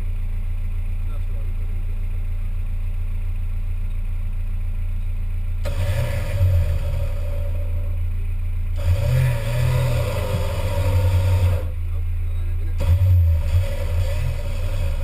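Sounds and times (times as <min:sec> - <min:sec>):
off-road engine idling and revving: 0:00.0 - 0:15.0.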